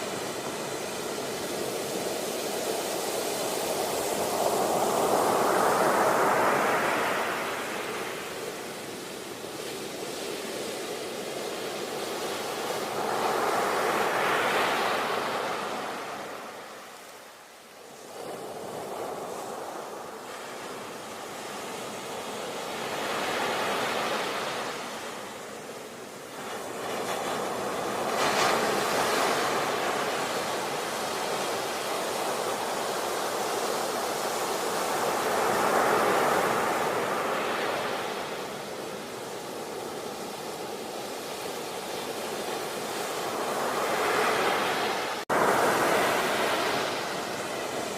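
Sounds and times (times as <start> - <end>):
ocean waves breaking: 0.0 - 17.1, 17.8 - 47.9.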